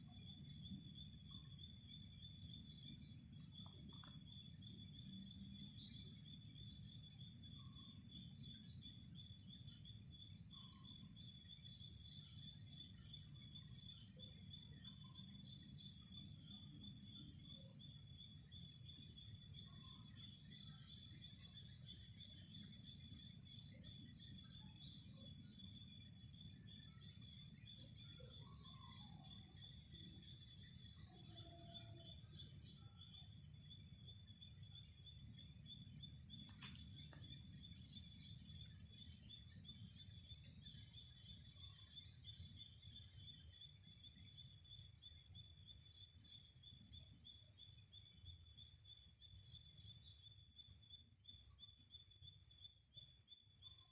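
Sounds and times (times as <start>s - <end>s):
crickets trilling: 0.0s - 53.9s
insect double chirp: 0.0s - 53.9s.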